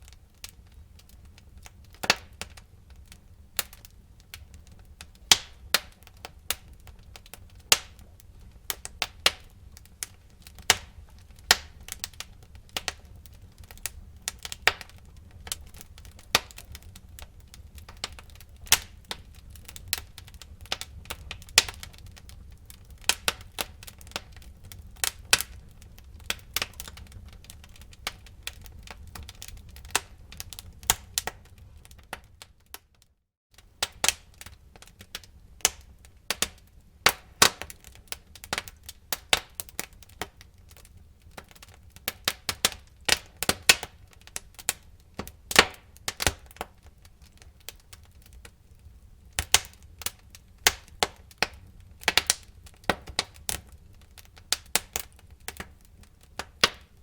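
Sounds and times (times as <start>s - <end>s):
low rumble of flames: 0.0s - 33.0s, 33.6s - 57.0s
wood fire crackling: 0.0s - 57.0s.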